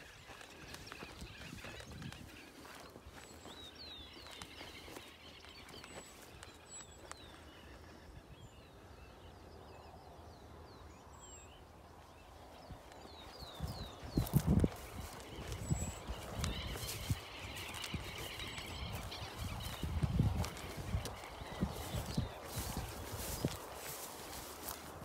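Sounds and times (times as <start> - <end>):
low outdoor background noise: 0.0 - 25.0
small birds chirping: 0.0 - 25.0.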